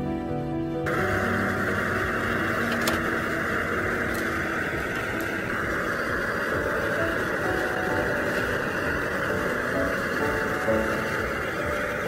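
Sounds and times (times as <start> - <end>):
stew boiling with hiss: 0.8 - 12.0.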